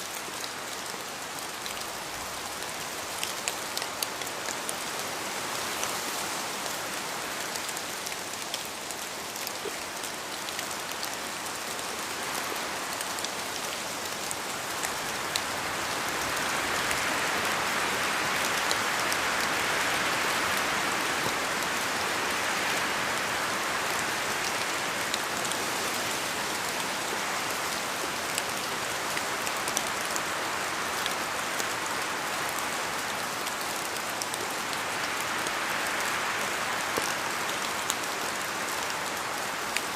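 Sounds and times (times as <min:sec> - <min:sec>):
rain falling in forest: 0:00.0 - 0:39.9.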